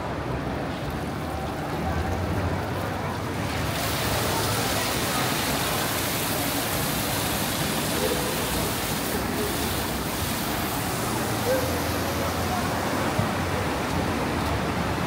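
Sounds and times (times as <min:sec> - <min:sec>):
fountain water splashing on stone: 0:00.0 - 0:15.0.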